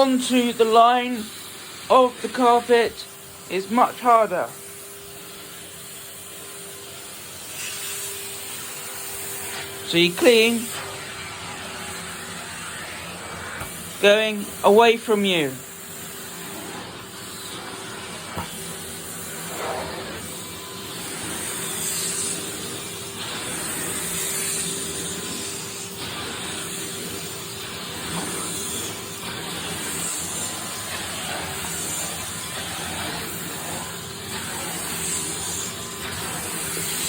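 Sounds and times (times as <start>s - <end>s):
vacuum cleaner running over carpet: 0.0s - 37.0s.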